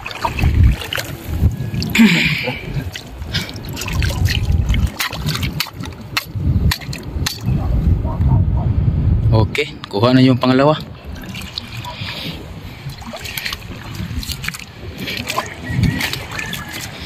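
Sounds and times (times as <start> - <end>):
wading footsteps splashing: 0.0 - 7.5, 10.7 - 17.0
water splashing and trickling: 0.0 - 7.5, 10.4 - 17.0.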